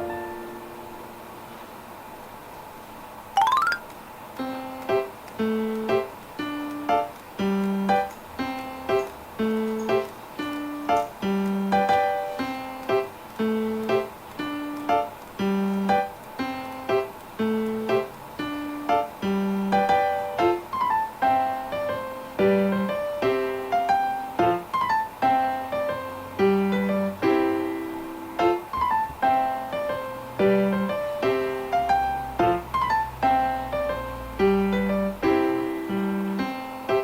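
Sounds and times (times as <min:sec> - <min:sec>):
piano music: 0:00.0 - 0:01.3, 0:03.4 - 0:37.0.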